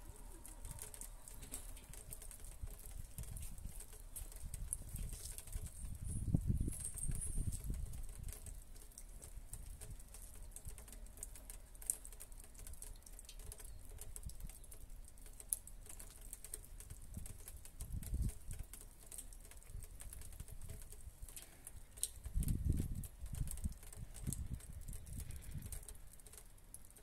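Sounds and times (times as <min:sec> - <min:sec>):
raindrops pattering on wood: 0:00.0 - 0:27.0.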